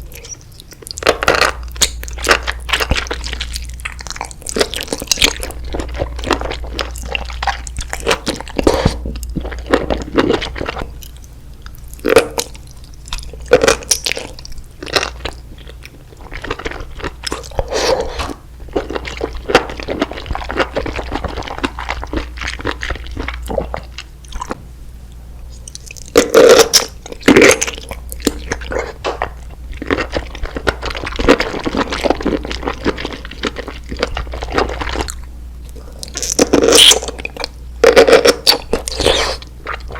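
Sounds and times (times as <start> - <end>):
person chewing crunchy food: 0.0 - 24.6, 25.2 - 39.9.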